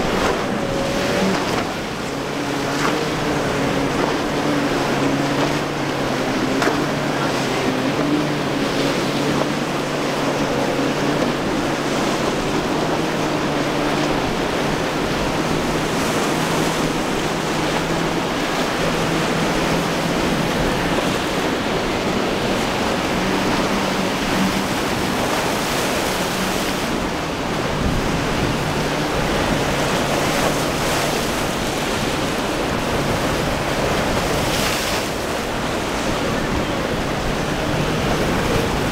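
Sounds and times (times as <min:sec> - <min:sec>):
outboard motor droning: 0:00.0 - 0:38.9
waves surging: 0:00.0 - 0:38.9
wind on microphone: 0:00.0 - 0:38.9.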